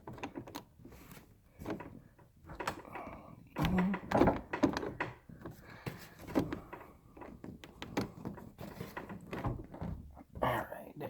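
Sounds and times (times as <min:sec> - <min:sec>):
door knocks and rattles: 0:00.0 - 0:00.8, 0:01.5 - 0:10.5.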